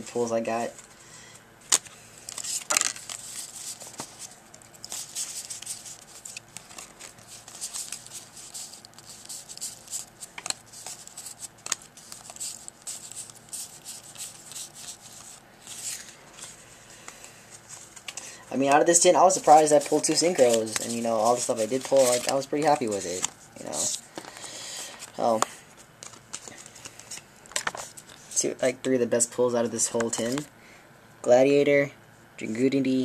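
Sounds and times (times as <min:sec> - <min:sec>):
cards rustling: 0:01.6 - 0:28.6, 0:29.8 - 0:30.5.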